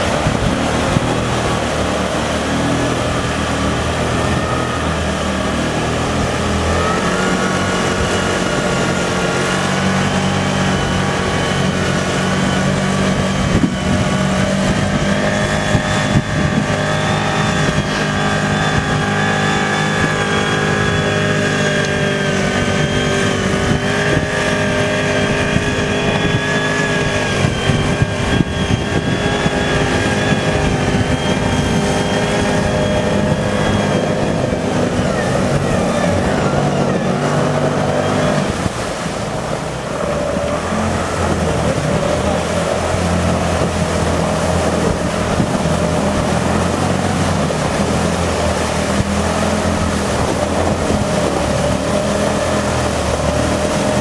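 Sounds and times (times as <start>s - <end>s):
vehicle engine running hard: 0.0s - 54.0s
water splashing: 0.0s - 54.0s.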